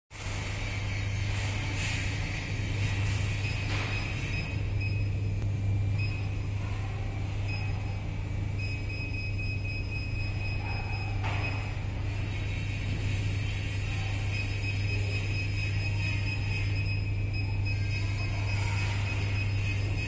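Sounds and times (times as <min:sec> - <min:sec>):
low electrical hum: 0:00.2 - 0:20.0.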